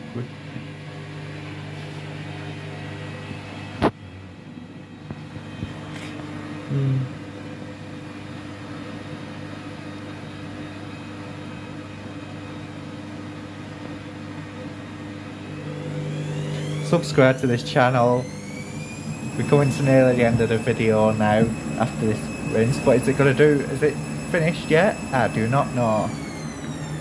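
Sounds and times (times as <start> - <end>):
washing machine humming: 0.0 - 27.0.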